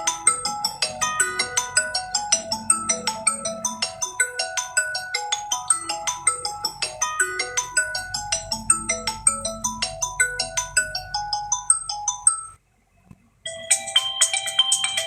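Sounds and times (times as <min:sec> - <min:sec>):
bright chiming ringtone: 0:00.0 - 0:12.6, 0:13.5 - 0:15.0
marimba phone ringtone: 0:00.0 - 0:12.6, 0:13.5 - 0:15.0.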